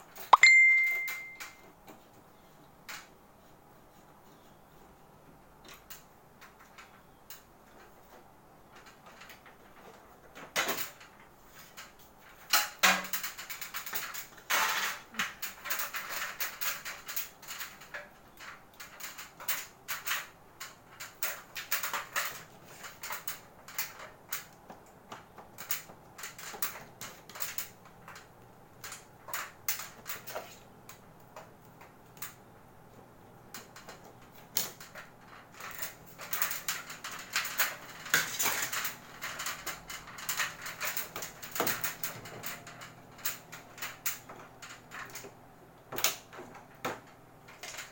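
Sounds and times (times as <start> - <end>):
plastic panels clicking and knocking: 5.6 - 32.5, 33.4 - 47.9.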